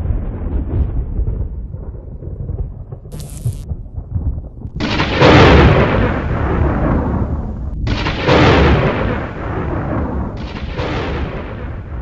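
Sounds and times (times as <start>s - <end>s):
thunderclaps: 0.0s - 12.0s.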